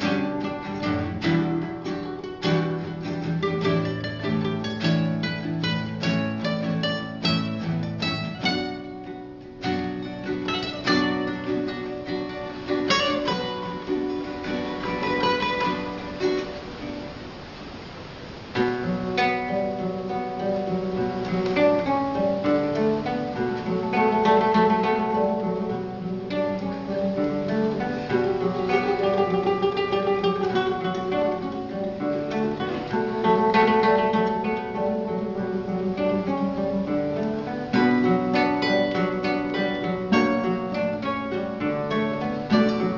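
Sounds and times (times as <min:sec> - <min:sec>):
acoustic guitar music: 0:00.0 - 0:42.9.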